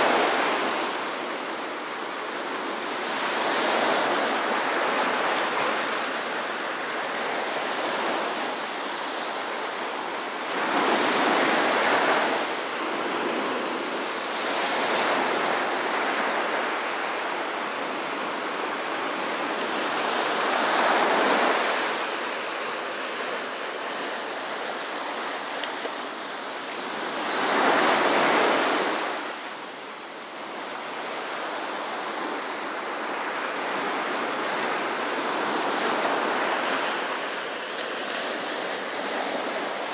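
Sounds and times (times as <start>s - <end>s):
waves breaking on sandy beach: 0.0s - 39.9s.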